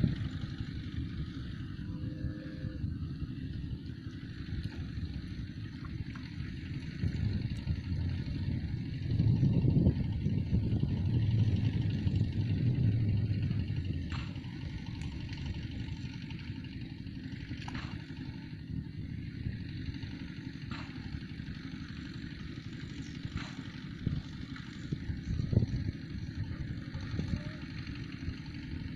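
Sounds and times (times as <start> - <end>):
engine running: 0.0 - 28.9.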